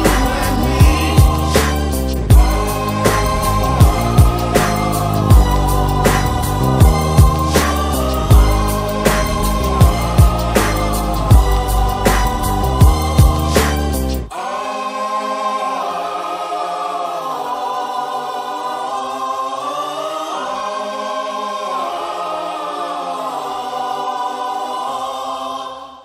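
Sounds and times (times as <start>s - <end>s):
choir-like sustained chords: 0.0s - 26.0s.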